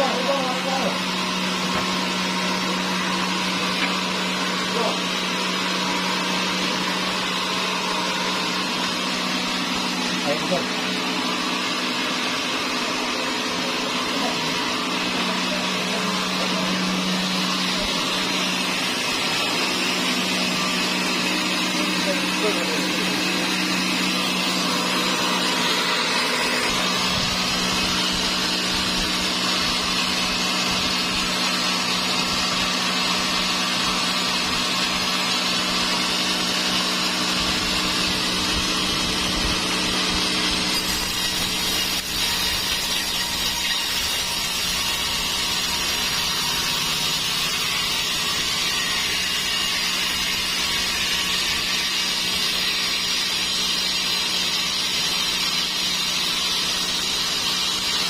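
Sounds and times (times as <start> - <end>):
machine hum: 0.0 - 58.0
saw blade rasping through log: 0.0 - 58.0.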